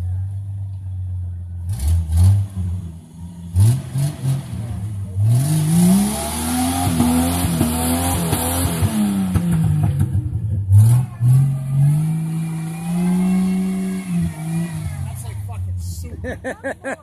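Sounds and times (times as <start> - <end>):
engine revving hard: 1.7 - 15.6.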